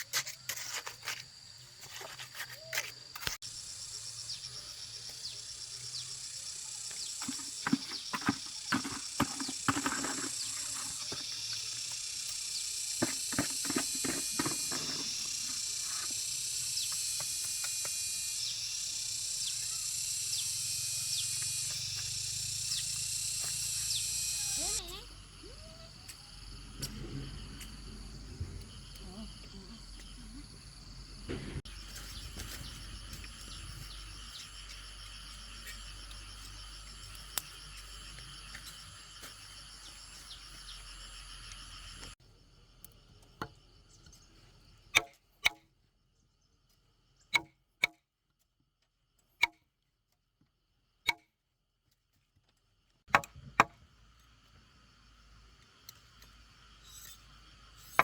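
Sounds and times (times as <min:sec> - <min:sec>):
insects chirping: 0:00.0 - 0:47.6, 0:52.5 - 0:58.0.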